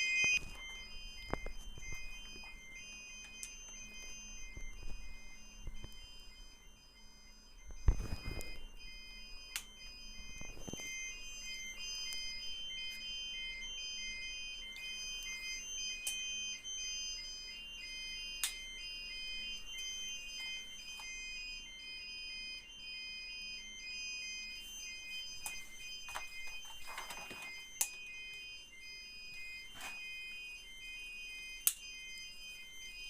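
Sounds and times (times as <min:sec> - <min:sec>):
fire alarm beeps: 0:00.0 - 0:33.0.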